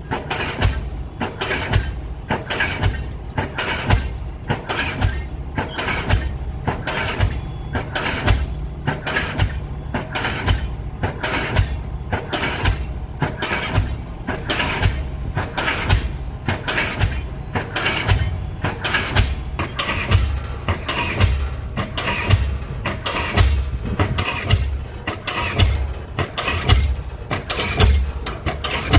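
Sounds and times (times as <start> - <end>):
low engine rumble: 0.0 - 28.9
pile-driving hammer blows: 0.0 - 28.9.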